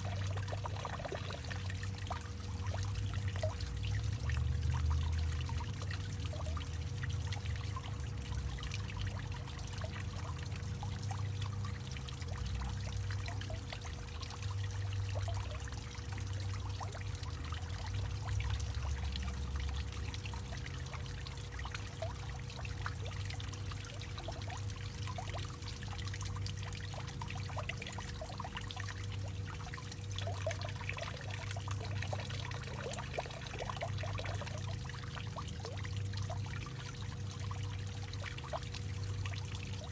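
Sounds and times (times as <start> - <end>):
faint steady tone: 0.0 - 39.9
water pouring and trickling: 0.0 - 39.9.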